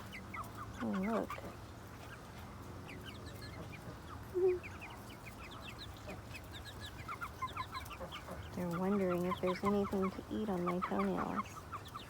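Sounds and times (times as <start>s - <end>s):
chicken clucking: 0.0s - 12.0s
chickens chirping: 0.0s - 12.0s.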